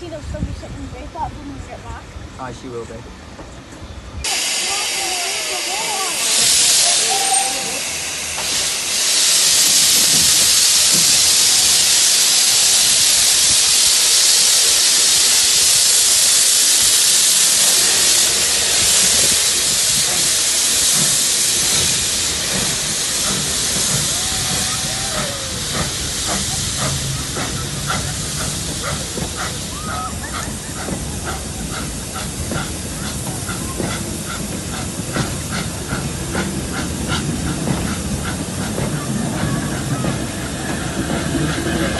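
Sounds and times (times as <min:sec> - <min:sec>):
steam locomotive hissing: 0:00.0 - 0:41.9.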